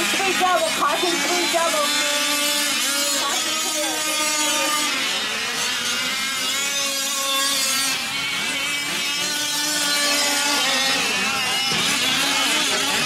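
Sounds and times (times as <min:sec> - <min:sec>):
small two-stroke engines revving: 0:00.0 - 0:13.0.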